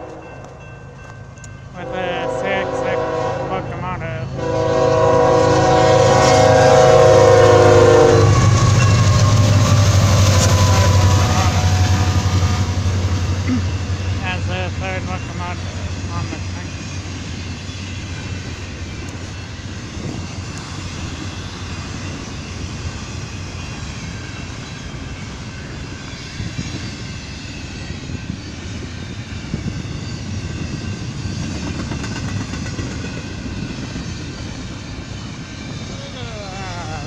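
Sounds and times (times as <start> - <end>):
freight train wheels rumbling: 0.0 - 37.0.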